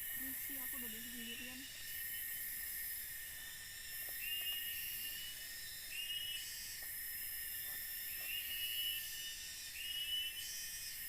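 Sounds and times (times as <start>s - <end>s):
bright shrill insect call: 0.0s - 11.0s
insect chorus shrilling: 0.0s - 11.0s.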